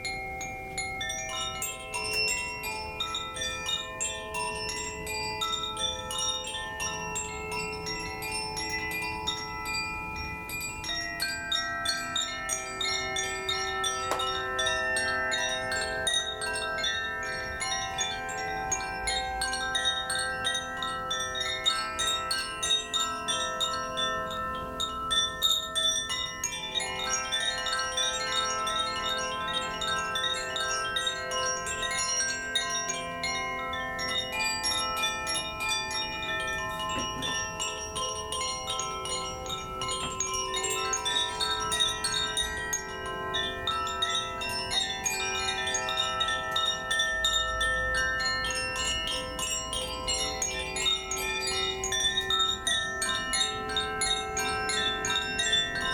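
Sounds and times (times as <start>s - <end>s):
chimes ringing: 0.0s - 55.9s.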